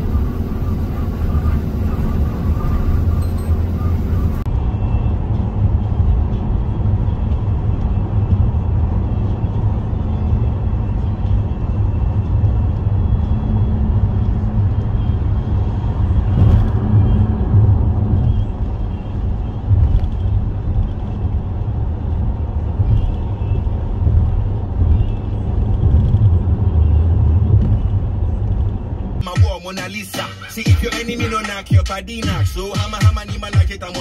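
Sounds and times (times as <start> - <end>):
car tyres and engine rumble: 0.0 - 34.0.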